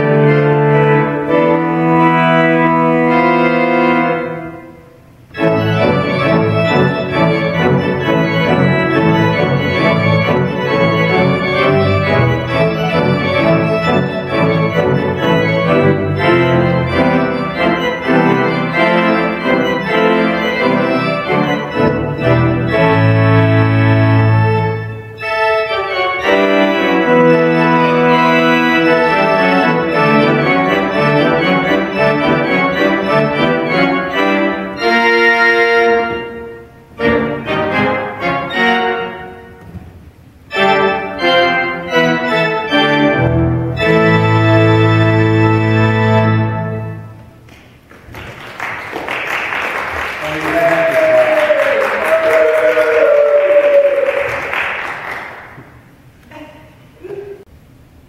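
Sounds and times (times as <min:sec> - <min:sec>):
pipe organ chords: 0:00.0 - 0:47.5.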